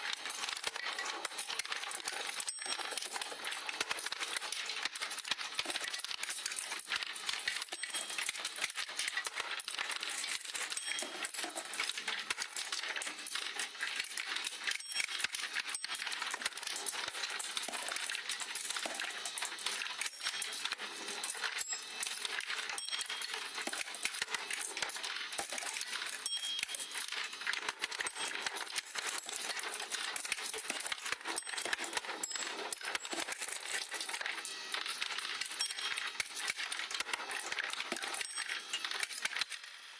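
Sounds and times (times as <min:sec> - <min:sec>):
marbles rolling and clattering: 0:00.0 - 0:39.7.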